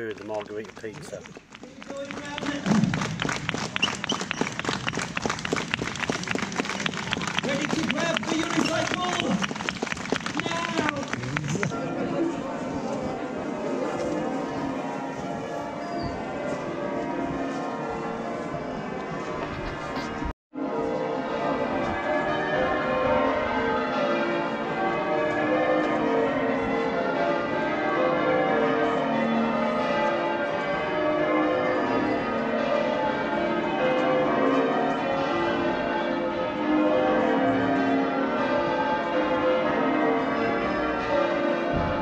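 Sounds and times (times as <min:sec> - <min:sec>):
church bells ringing changes: 0:04.7 - 0:42.0.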